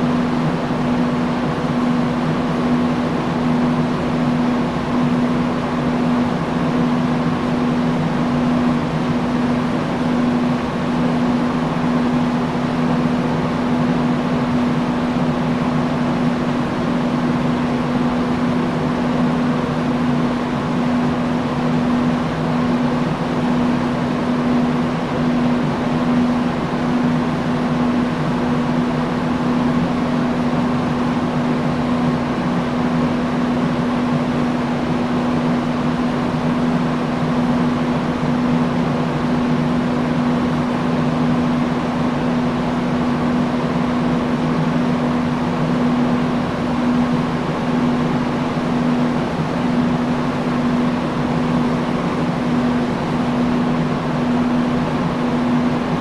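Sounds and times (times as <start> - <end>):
industrial fan running: 0.0 - 56.0.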